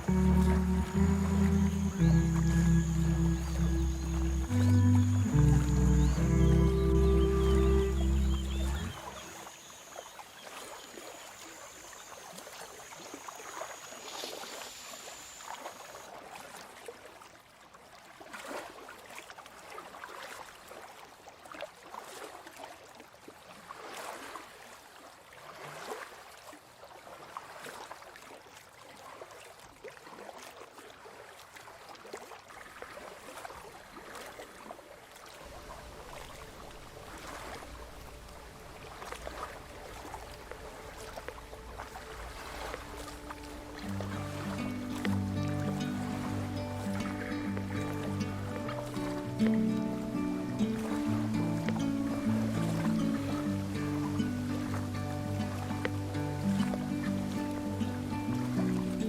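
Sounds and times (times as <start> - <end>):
paddle splashing in water: 0.0 - 59.0.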